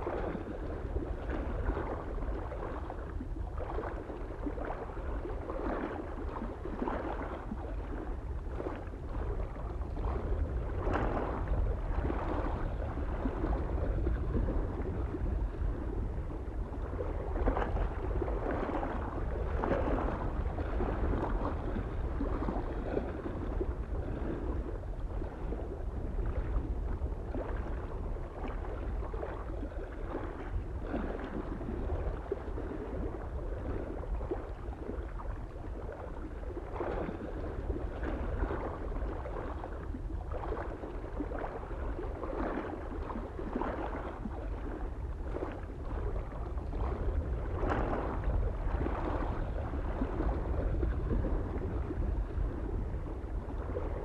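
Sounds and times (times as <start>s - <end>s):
small waves lapping on shore: 0.0s - 54.0s
wind rumbling on microphone: 0.0s - 54.0s.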